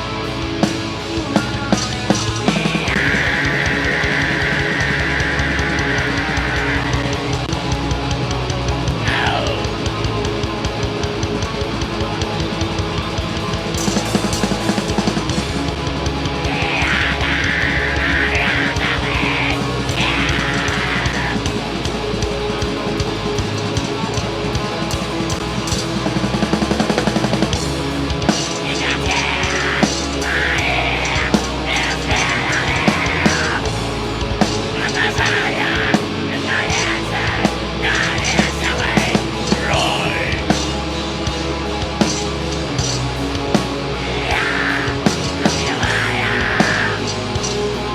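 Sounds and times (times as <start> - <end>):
distorted electric guitars: 0.0 - 47.9
drum kit: 0.0 - 47.9.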